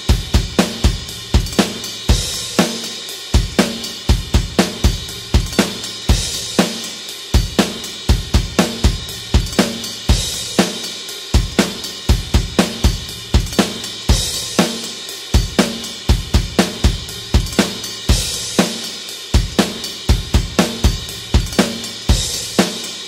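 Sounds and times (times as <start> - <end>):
bass drum: 0.0 - 6.8, 7.4 - 22.8
crash cymbal: 0.0 - 23.0
hi-hat: 0.0 - 23.0
snare drum: 0.0 - 23.0.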